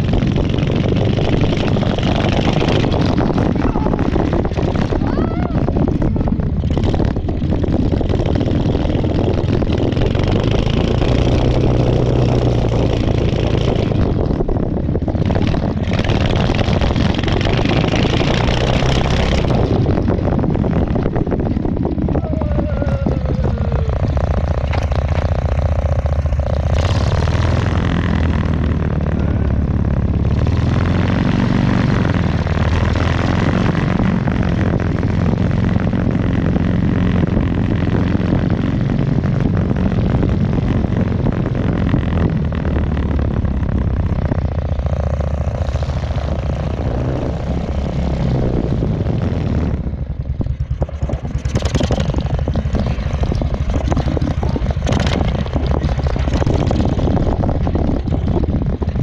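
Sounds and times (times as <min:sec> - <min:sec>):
walking tractor engine running: 0:00.0 - 0:59.0.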